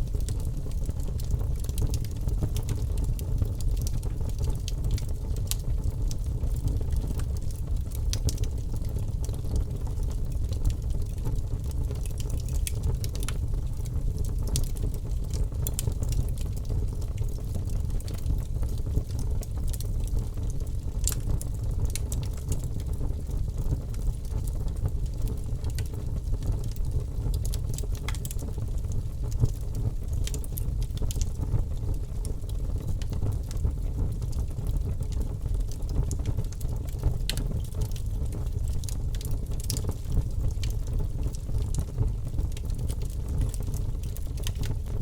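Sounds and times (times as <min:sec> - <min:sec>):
fire roaring with crackles: 0:00.0 - 0:45.0.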